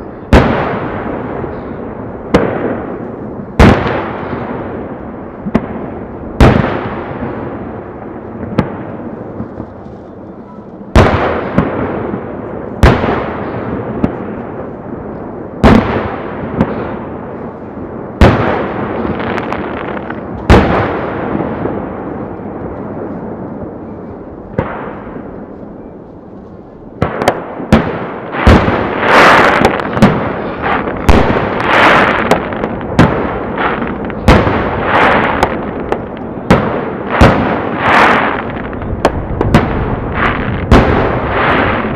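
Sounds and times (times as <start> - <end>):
rapid barrage of crackling bursts: 0.3 - 41.9.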